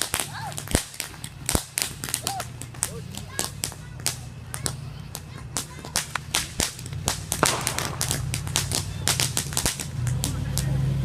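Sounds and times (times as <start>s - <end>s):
fireworks cracking: 0.0s - 11.0s.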